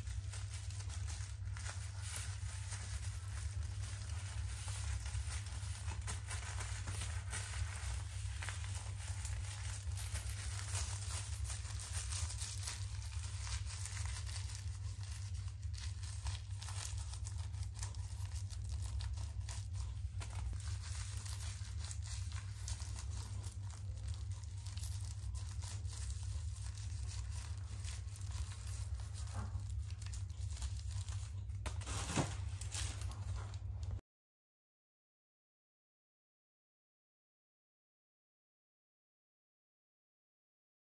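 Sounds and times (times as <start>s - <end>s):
plastic bag crinkling: 0.0s - 34.0s
steady low hum: 0.0s - 34.0s.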